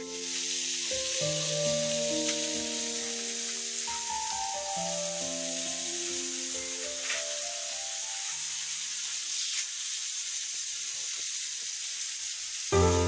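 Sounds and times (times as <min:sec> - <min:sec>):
meat sizzling on grill plate: 0:00.0 - 0:13.0.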